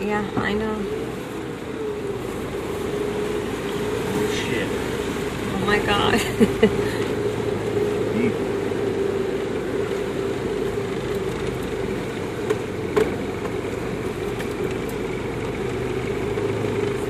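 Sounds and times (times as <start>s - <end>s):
engine running: 0.0s - 17.0s
vehicle driving through mud and water: 0.0s - 17.0s.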